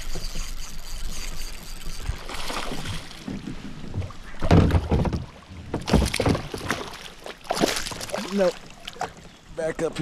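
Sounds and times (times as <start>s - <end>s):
water splashing around kayak: 0.0s - 10.0s.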